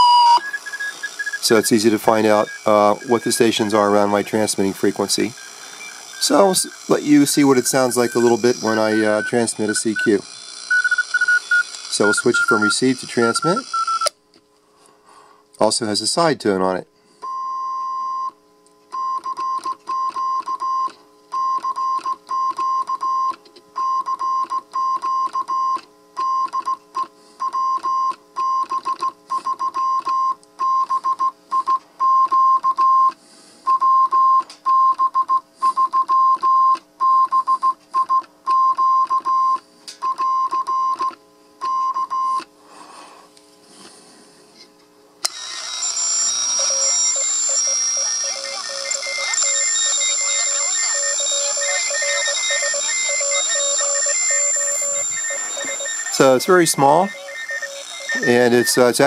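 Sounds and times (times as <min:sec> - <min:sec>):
morse code beeps: 0:00.0 - 0:14.1, 0:19.0 - 0:26.8, 0:27.4 - 0:33.1, 0:33.7 - 0:42.4, 0:45.8 - 0:59.0.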